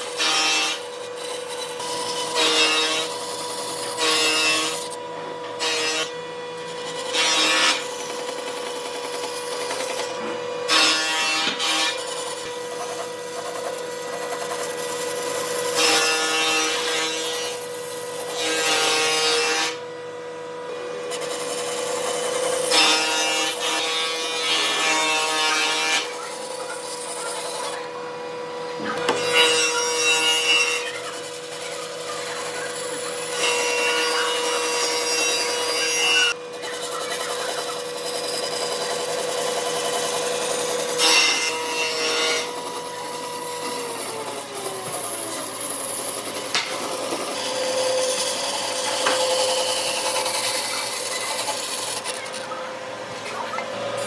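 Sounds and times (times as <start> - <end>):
tool rasping on wood: 0.0 - 5.0, 5.6 - 19.8, 21.0 - 28.0, 28.8 - 52.6.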